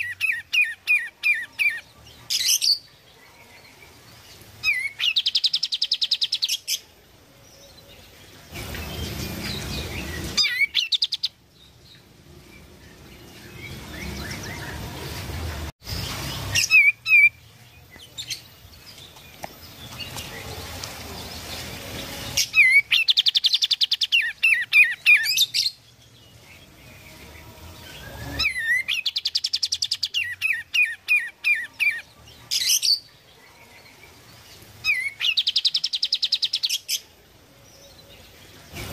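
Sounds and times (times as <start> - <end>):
songbird chattering song: 0.0 - 15.2, 15.9 - 38.9.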